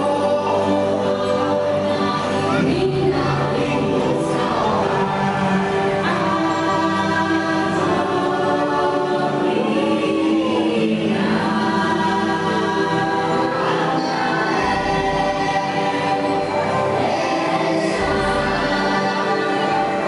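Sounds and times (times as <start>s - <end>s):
choir singing sustained chords: 0.0s - 20.0s.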